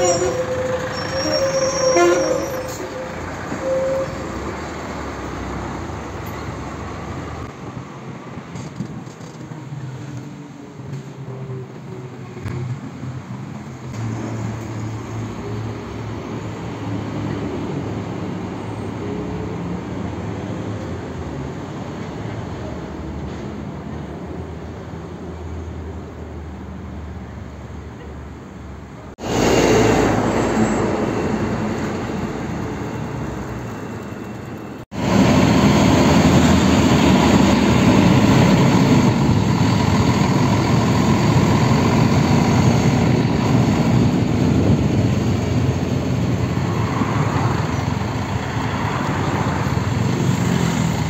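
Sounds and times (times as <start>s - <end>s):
road noise: 0.0s - 51.0s.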